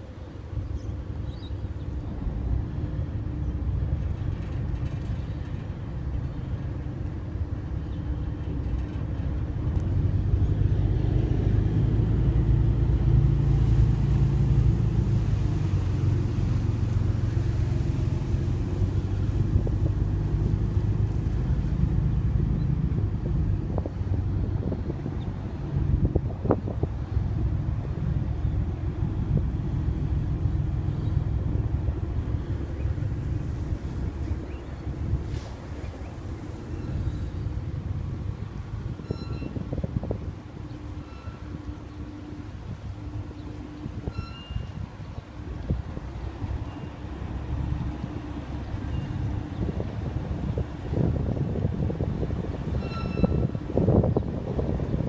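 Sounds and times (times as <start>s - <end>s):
ferry diesel engines droning: 0.0s - 55.0s
wind noise: 2.0s - 55.0s.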